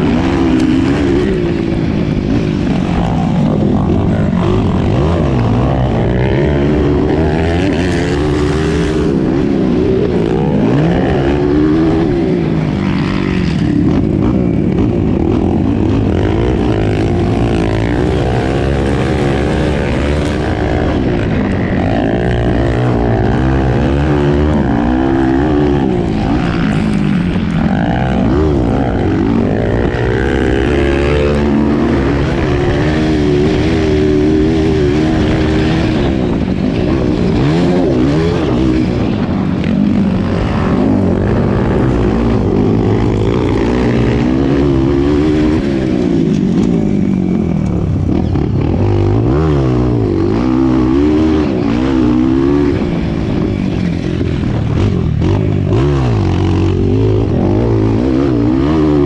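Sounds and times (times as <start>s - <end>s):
dirt bike engine revving: 0.0s - 59.0s
wind and track noise: 0.0s - 59.0s.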